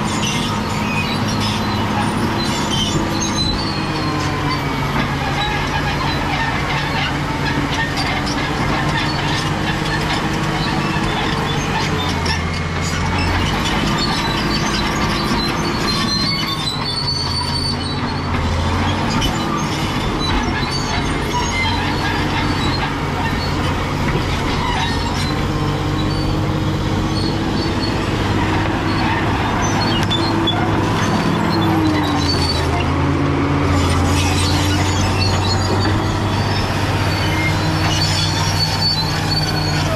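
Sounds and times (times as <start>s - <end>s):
bulldozer diesel engine under load: 0.0s - 39.9s
steel tracks squealing and clanking: 0.0s - 39.9s.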